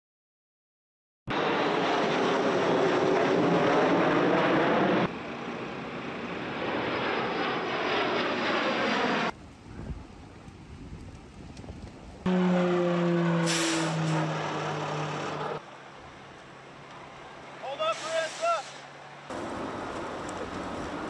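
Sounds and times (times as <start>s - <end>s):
aircraft flying low overhead: 1.3s - 17.8s, 18.8s - 21.0s.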